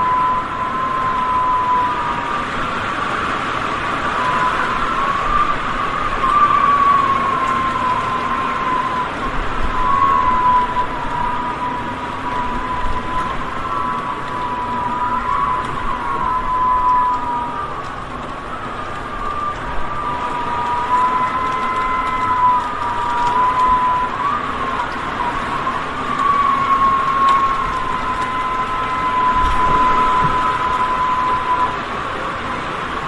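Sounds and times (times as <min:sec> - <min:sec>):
high wavering whistle: 0:00.0 - 0:33.0
strong wind gusting: 0:00.0 - 0:33.0.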